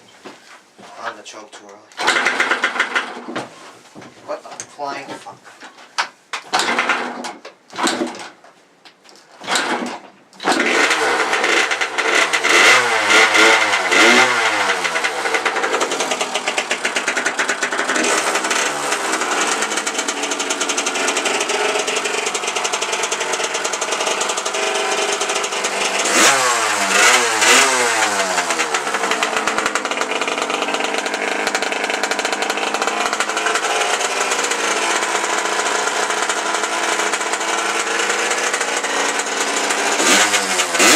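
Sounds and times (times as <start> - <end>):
two-stroke engine starting and revving: 1.9 - 3.3, 6.5 - 8.4, 9.4 - 40.9.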